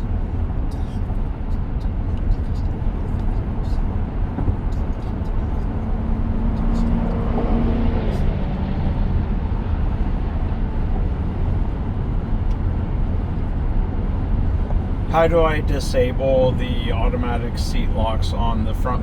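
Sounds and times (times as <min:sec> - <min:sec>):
faint low drone: 0:00.0 - 0:19.0
tyre and road noise in car cabin: 0:00.0 - 0:19.0.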